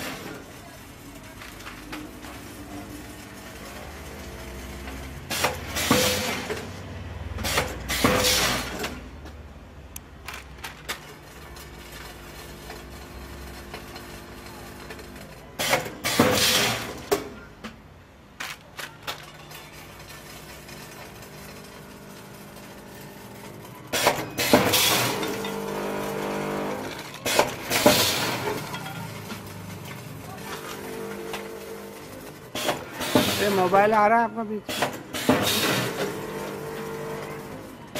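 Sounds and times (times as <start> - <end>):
packing machine humming: 0.0 - 9.3, 10.2 - 17.7, 18.7 - 37.9.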